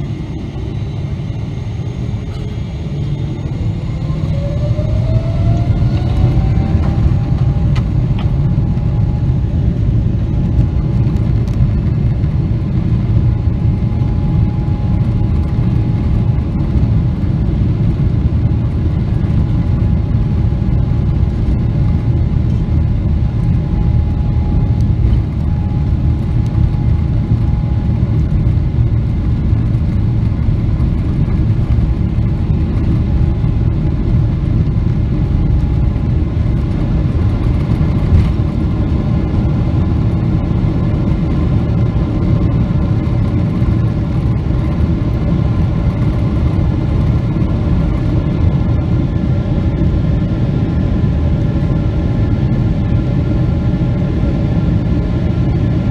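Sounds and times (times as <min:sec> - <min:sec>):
thin steady whine: 0:00.0 - 0:54.8
jet engine rumble: 0:00.0 - 0:55.9.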